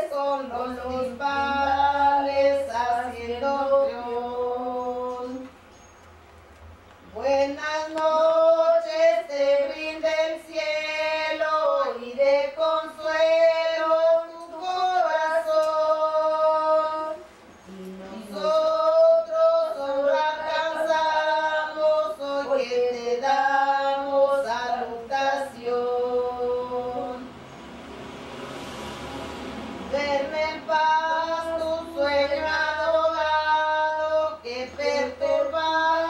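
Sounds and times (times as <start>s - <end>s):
women singing unaccompanied: 0.0s - 5.6s, 7.0s - 27.4s, 29.8s - 36.0s.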